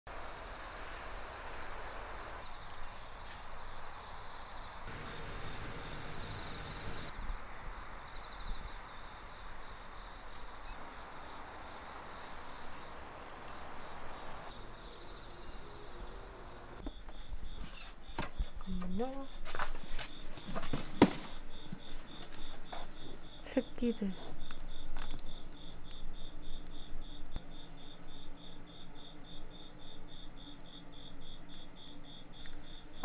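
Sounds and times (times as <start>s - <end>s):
insects chorus: 0.1s - 33.0s
soft outdoor hiss: 0.1s - 33.0s.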